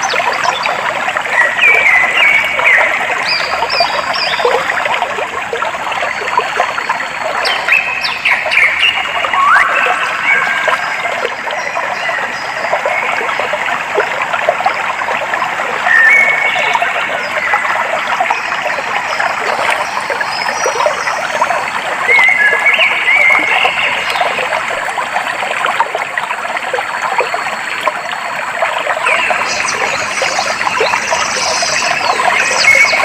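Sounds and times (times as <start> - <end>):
stream trickling: 0.0 - 33.0.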